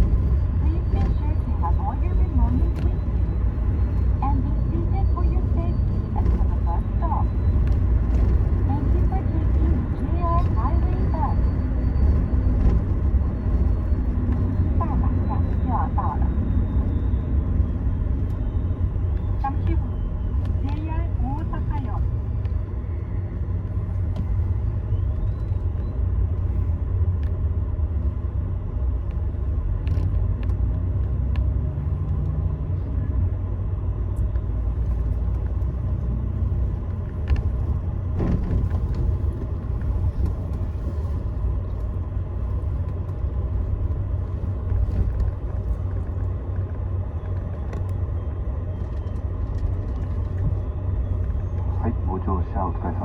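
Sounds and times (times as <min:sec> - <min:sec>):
coach engine rumble: 0:00.0 - 0:53.0.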